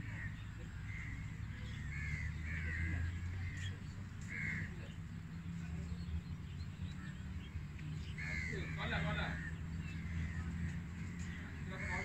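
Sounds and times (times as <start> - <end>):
birds harsh calls: 0.0 - 12.0.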